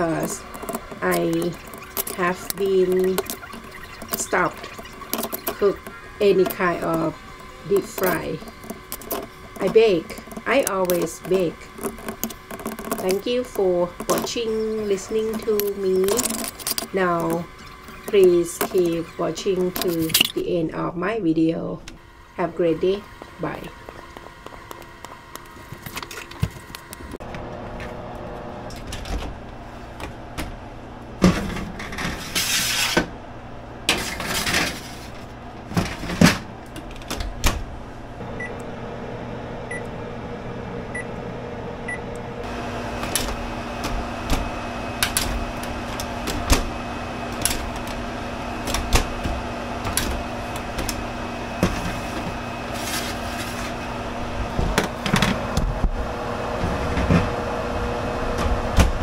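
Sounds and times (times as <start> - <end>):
oven hum: 0.0 - 59.0.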